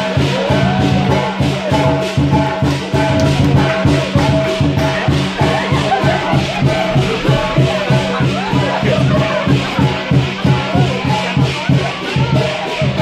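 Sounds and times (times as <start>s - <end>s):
crash cymbals: 0.0s - 13.0s
drum: 0.0s - 13.0s
gong: 0.0s - 13.0s.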